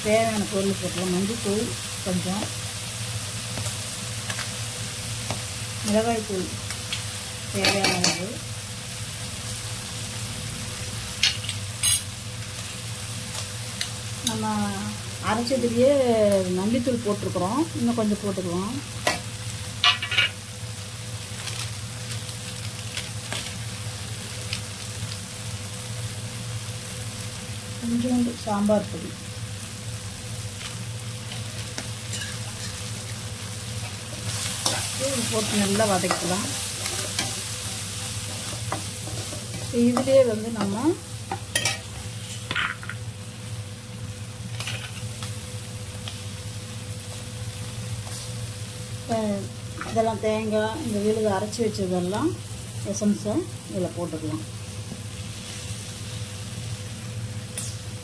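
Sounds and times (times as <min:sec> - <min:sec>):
food sizzling in oil: 0:00.0 - 0:58.0.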